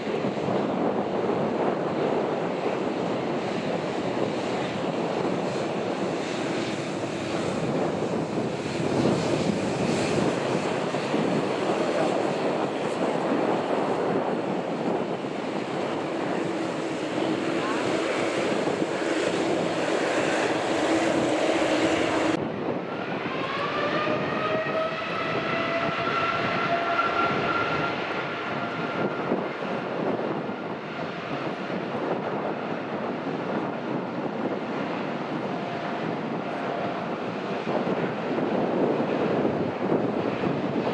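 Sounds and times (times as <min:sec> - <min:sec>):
jet engines roaring: 0:00.0 - 0:40.9
jet engine whine rising: 0:00.1 - 0:40.9.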